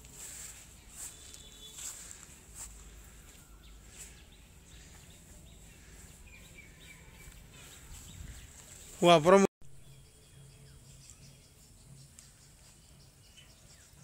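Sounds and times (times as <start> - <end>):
bird chirps: 0.3 - 9.0, 9.7 - 14.0.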